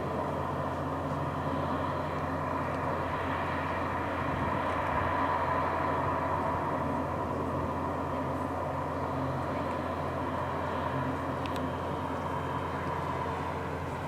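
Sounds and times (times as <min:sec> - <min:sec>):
diesel machinery engine drone: 0:00.0 - 0:14.0
steady machine whine: 0:00.0 - 0:14.0.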